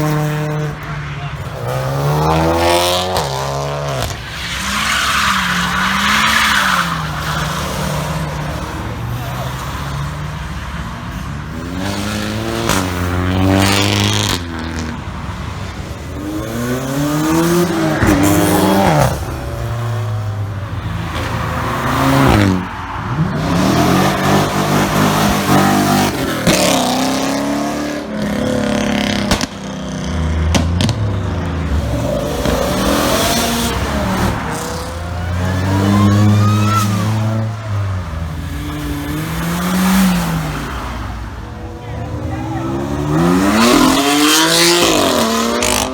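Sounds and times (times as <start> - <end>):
cars accelerating and revving: 0.0 - 45.9.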